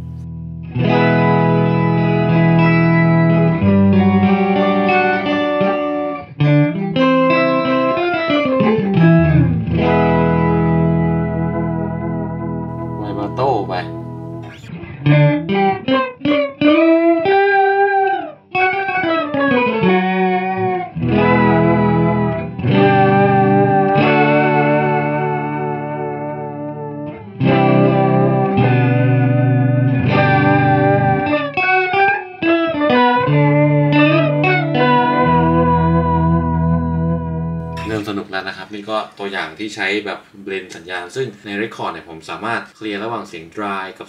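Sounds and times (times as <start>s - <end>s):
electric guitar with octave and vibrato: 0.0s - 38.5s.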